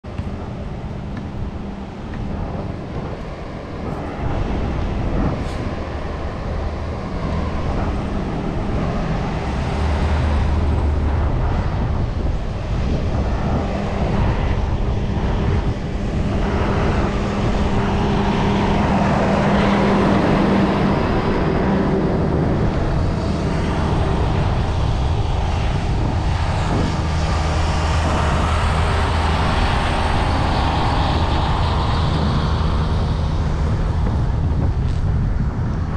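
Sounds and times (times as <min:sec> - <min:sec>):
bicycle ride rumbling: 0:00.0 - 0:35.9
low engine-like hum: 0:00.0 - 0:35.9
road noise: 0:00.0 - 0:35.9
wind: 0:00.0 - 0:35.9.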